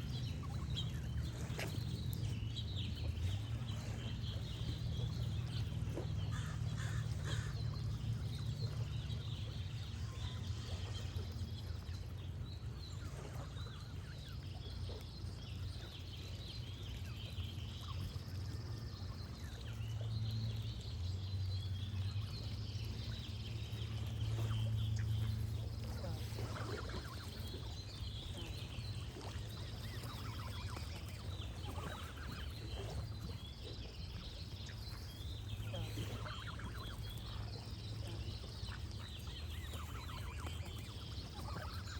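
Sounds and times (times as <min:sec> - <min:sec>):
gently flowing water: 0:00.0 - 0:41.9
songbird chirping: 0:00.0 - 0:41.9.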